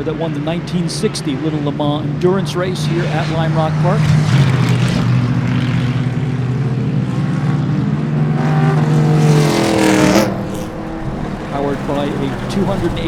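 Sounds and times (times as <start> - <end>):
car engine accelerating: 0.0 - 13.0
racing car engines droning: 0.0 - 13.0.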